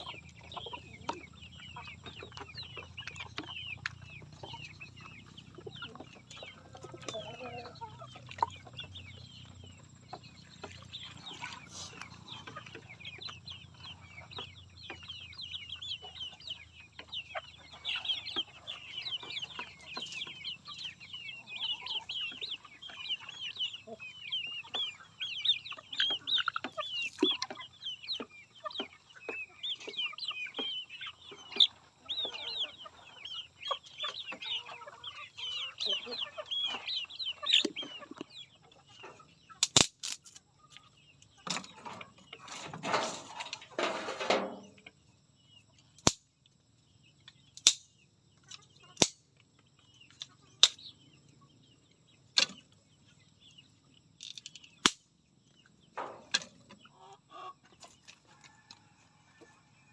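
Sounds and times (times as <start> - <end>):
chicks peeping and clucking: 0.0 - 59.9.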